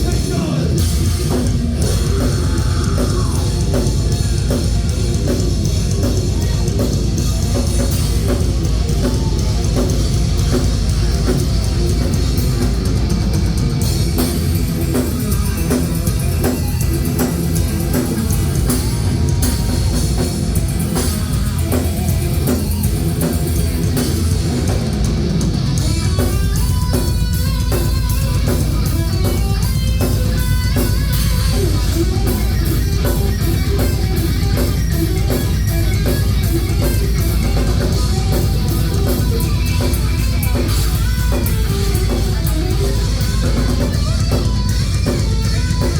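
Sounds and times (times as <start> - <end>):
heavy rock music: 0.0 - 45.9.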